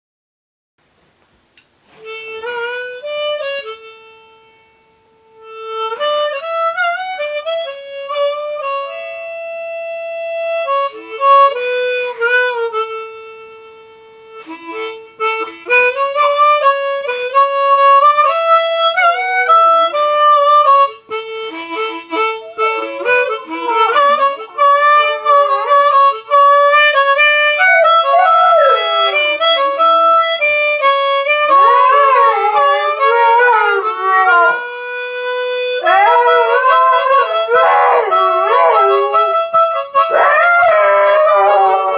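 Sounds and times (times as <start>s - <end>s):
harmonica playing slow tune: 1.9s - 41.9s.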